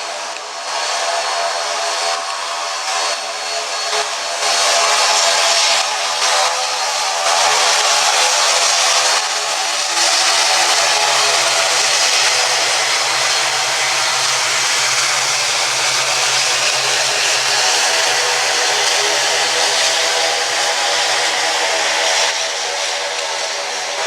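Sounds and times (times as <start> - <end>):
airliner engines roaring: 0.0 - 24.0.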